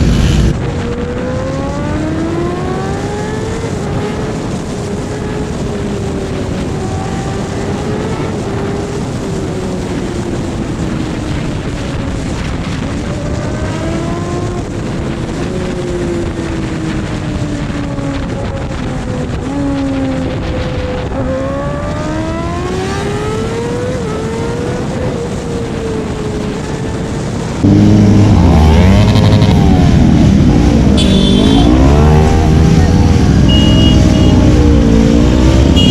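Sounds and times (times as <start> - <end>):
motorcycle engine at speed: 0.0 - 35.9
wind rush: 0.0 - 35.9.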